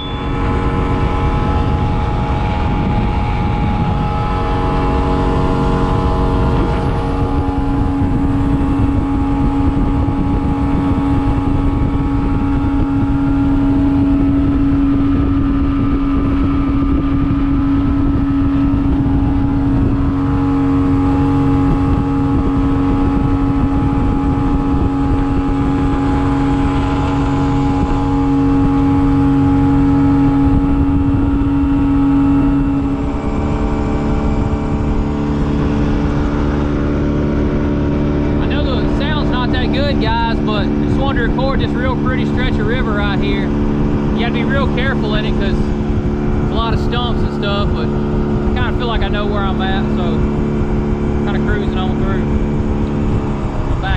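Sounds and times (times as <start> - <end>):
outboard motor running: 0.0 - 53.9
wind and water rushing: 0.0 - 53.9.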